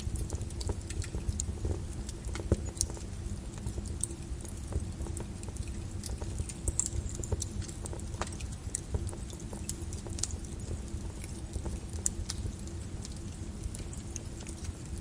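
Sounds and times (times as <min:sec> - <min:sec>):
lava crackling and popping: 0:00.0 - 0:15.0.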